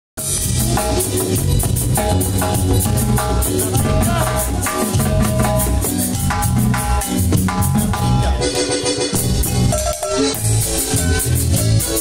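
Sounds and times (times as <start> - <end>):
live band playing dance music: 0.2 - 12.0.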